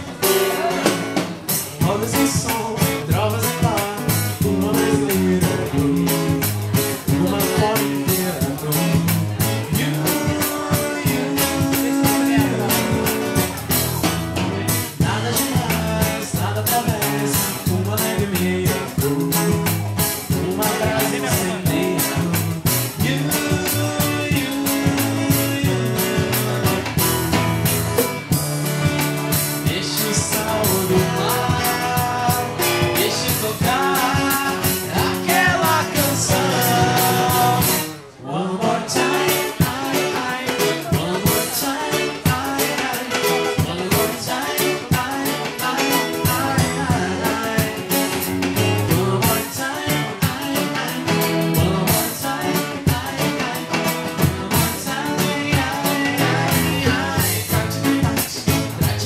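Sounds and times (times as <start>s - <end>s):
drums beating: 0.0s - 38.0s, 39.0s - 59.0s
male and female voices singing: 0.0s - 59.0s
strummed acoustic guitars: 0.0s - 59.0s.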